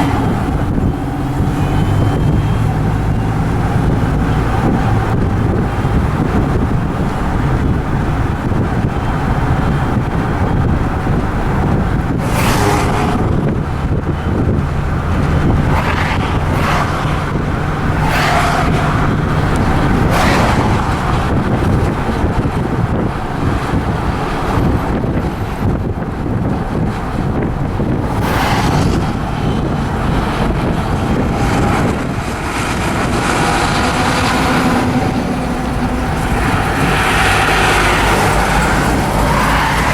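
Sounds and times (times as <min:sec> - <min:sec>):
car engine running: 0:00.0 - 0:39.9
wind buffeting microphone: 0:00.0 - 0:39.9.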